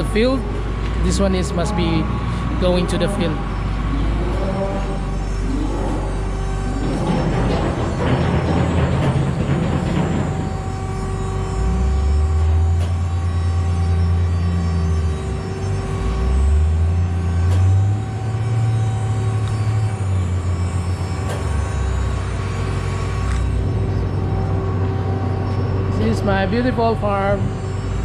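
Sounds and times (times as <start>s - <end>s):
heavy vehicle engine revving: 0.0s - 28.0s.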